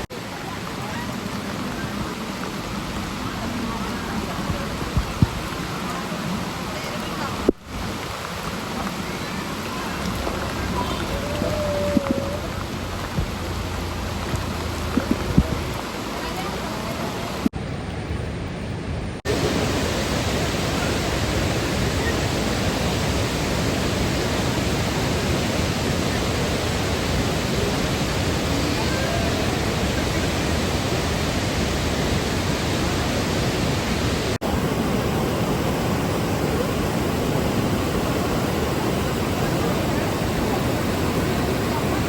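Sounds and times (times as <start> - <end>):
waterfall rushing: 0.0 - 17.5, 19.3 - 42.0.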